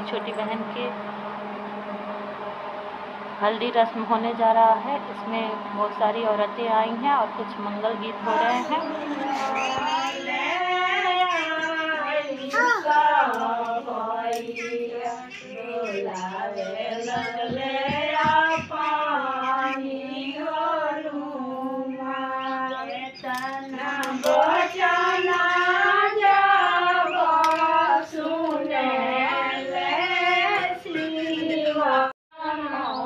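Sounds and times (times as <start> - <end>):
women singing together: 3.4 - 33.0.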